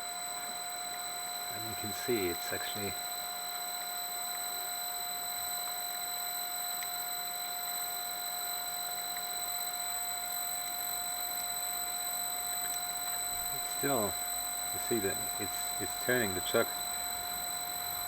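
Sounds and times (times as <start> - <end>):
lathe running with high whine: 0.0 - 18.0.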